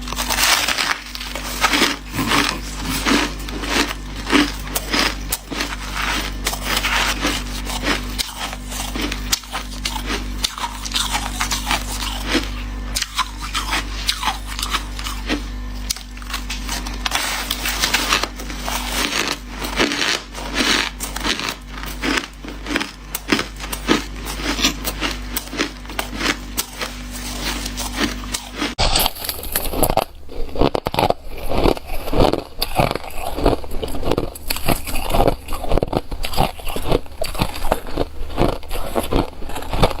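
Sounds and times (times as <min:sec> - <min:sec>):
chewing crunchy ice: 0:00.0 - 0:40.0
steady low hum: 0:00.0 - 0:40.0.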